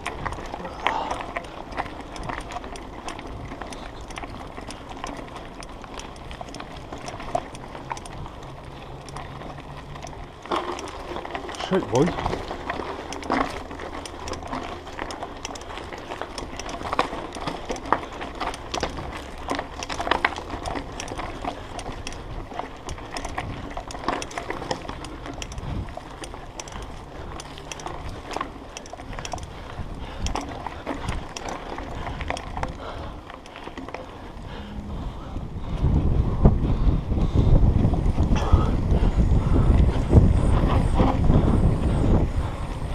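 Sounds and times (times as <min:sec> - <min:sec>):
bike rattling and knocking: 0:00.0 - 0:42.9
tyre noise on loose ground: 0:00.0 - 0:42.9.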